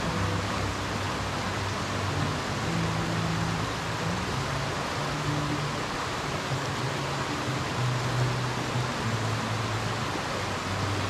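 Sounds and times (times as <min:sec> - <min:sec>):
soft background music: 0:00.0 - 0:11.0
waterfall rushing: 0:00.0 - 0:11.0.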